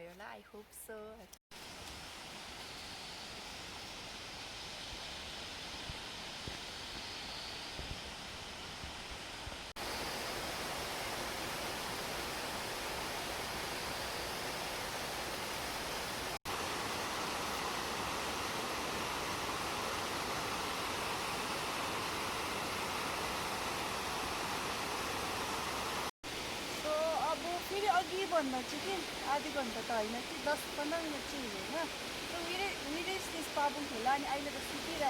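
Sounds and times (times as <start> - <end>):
mountain stream running: 1.5 - 35.0.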